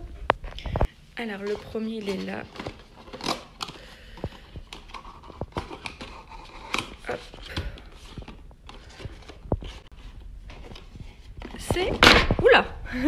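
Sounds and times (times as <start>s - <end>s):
paper and cardboard rustling: 0.0s - 12.6s.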